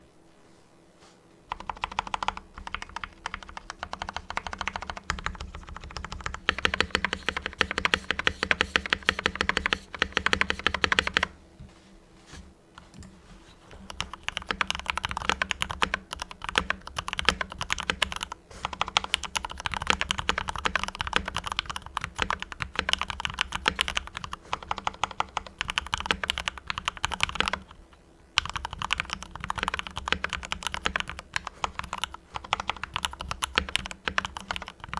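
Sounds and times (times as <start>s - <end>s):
mechanical keyboard typing: 1.5s - 11.3s, 13.8s - 27.8s, 28.4s - 34.9s.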